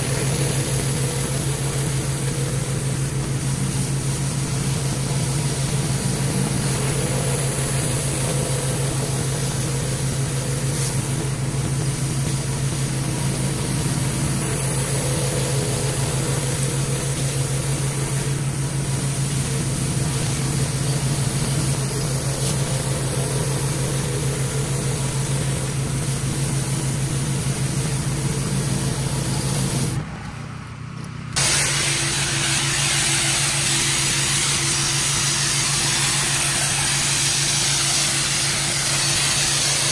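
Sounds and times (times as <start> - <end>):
spray wand hissing: 0.0 - 30.0, 31.4 - 39.9
water jet hissing on concrete: 0.0 - 30.0, 31.4 - 39.9
pressure washer engine hum: 0.0 - 39.9.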